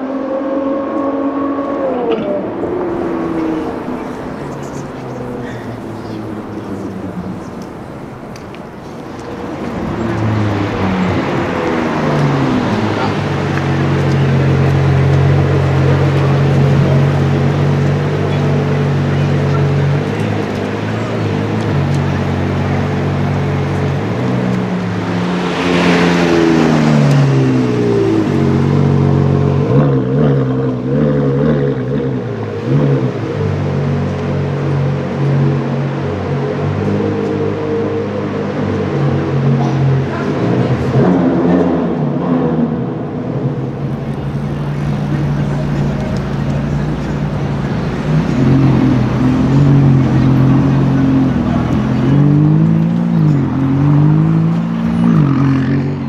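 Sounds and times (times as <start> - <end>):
car engine at low revs: 0.9 - 56.0.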